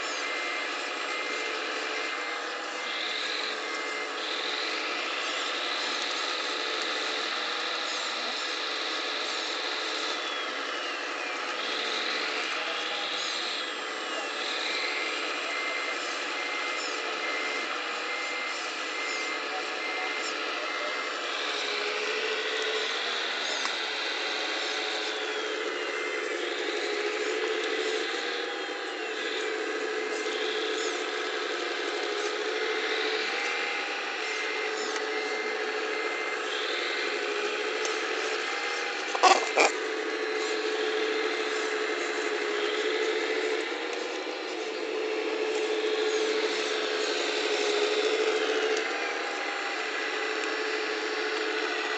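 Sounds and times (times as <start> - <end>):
hydraulic pump whining: 0.0 - 51.9.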